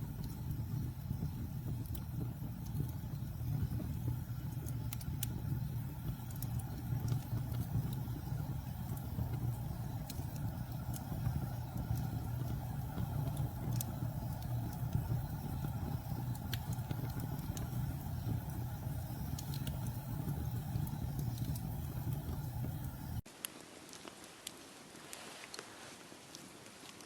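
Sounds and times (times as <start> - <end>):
campfire crackling and popping: 0.0 - 25.7.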